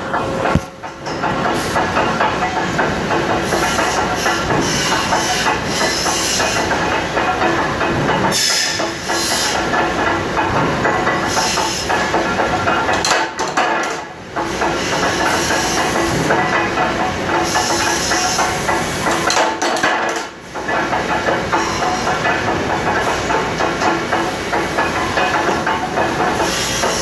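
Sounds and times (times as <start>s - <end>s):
metal-cutting machinery clattering: 0.0s - 27.0s.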